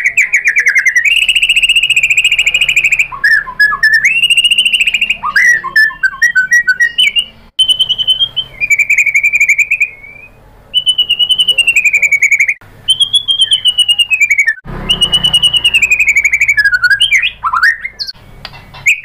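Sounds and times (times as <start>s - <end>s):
bird whistled notes: 0.0s - 18.2s, 18.8s - 19.0s
bird singing buzzy trills: 0.0s - 19.0s.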